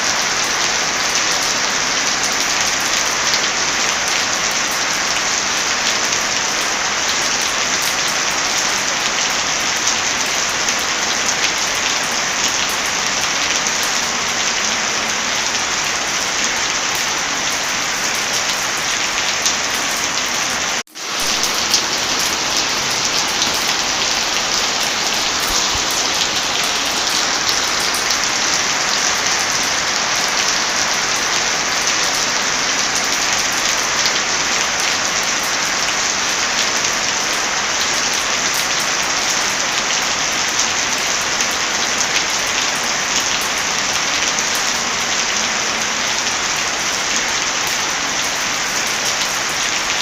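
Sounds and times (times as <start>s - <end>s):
heavy rain hissing: 0.0s - 50.0s.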